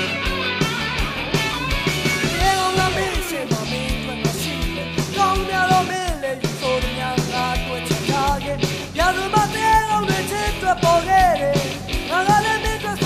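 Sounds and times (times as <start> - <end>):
electric guitar: 0.0 - 13.0
steady drum beat: 0.0 - 13.0
person singing: 2.2 - 13.0.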